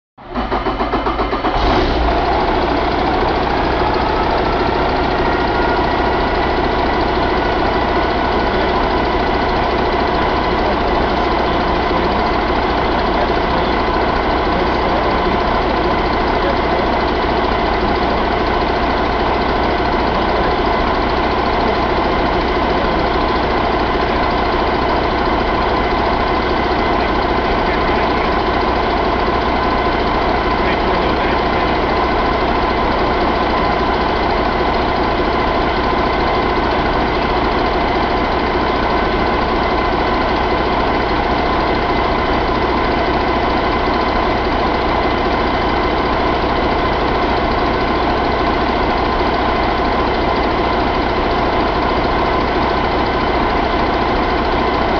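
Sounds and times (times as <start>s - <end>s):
diesel engine cranking and idling: 0.2s - 54.9s
engine whine: 0.2s - 54.9s.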